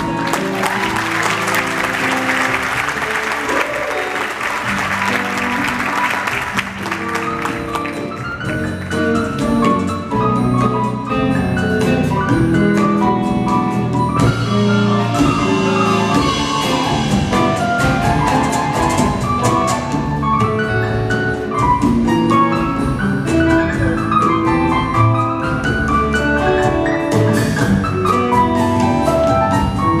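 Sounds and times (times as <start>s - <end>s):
drum kit beat: 0.0s - 30.0s
live ensemble music: 0.0s - 30.0s.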